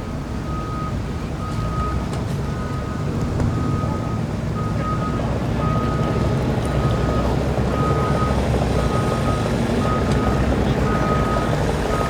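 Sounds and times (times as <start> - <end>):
engine running low: 0.0 - 12.0
vehicle reverse alarm beeping: 0.4 - 12.0.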